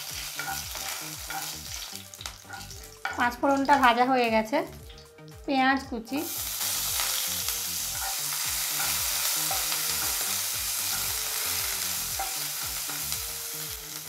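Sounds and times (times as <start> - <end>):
onion sizzling in hot oil: 0.0 - 5.3, 6.0 - 14.0.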